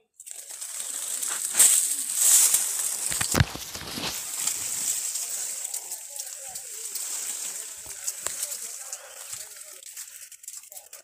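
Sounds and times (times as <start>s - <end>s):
leaves rustling against phone: 0.2s - 11.0s.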